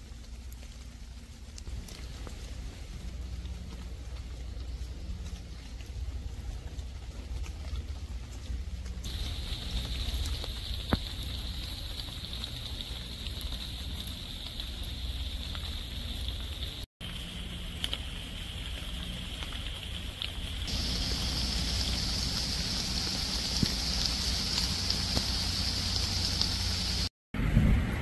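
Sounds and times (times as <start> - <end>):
rain falling on leaves: 0.0 - 27.1.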